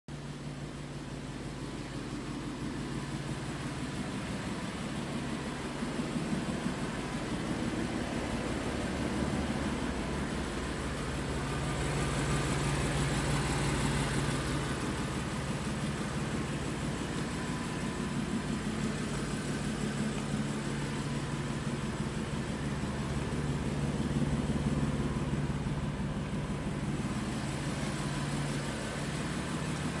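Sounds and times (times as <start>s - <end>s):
car engine low drone: 0.1s - 30.0s.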